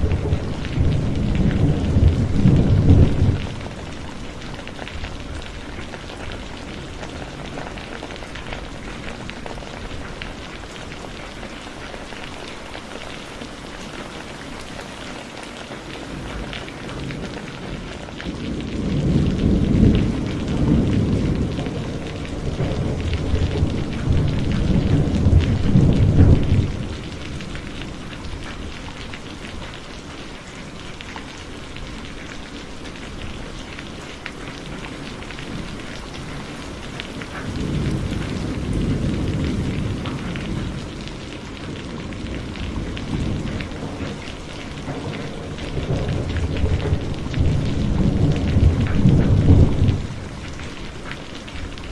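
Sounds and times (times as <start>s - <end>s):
rolling thunder: 0.0s - 11.2s, 15.5s - 29.1s, 34.6s - 51.9s
heavy rain: 0.0s - 51.9s.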